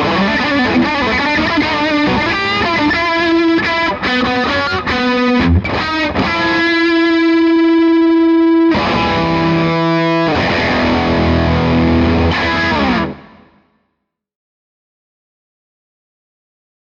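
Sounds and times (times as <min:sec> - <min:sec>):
overdriven electric guitar: 0:00.0 - 0:13.8.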